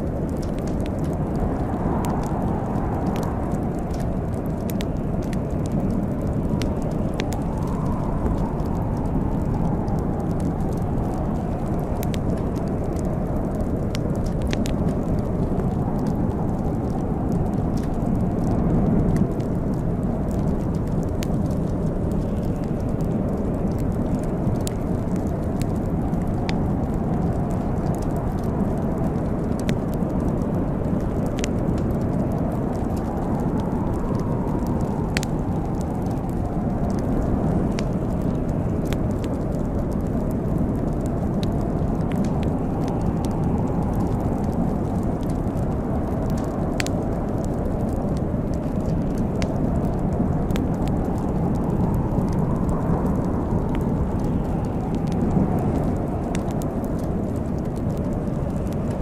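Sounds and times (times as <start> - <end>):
fire crackles and pops: 0.0 - 59.0
fire low rumble: 0.0 - 59.0.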